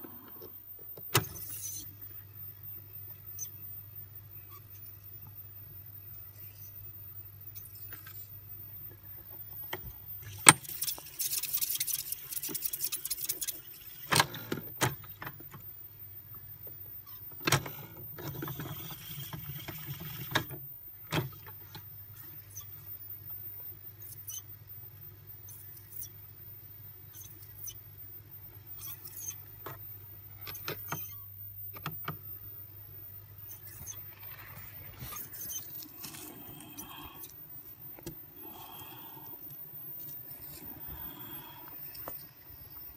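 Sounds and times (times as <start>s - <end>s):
tape recorder motor hum: 0.0s - 42.9s
tape winding hiss: 0.0s - 42.9s.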